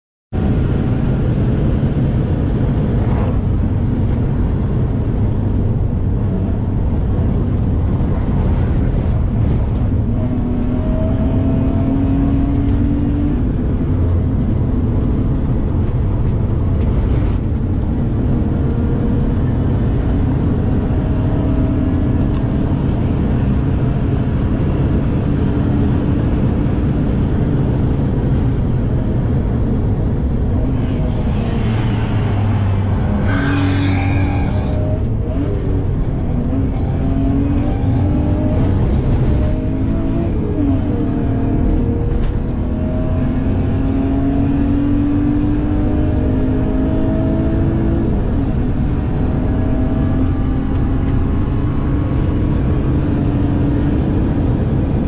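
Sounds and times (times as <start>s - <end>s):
car engine revving under load: 0.5s - 55.0s.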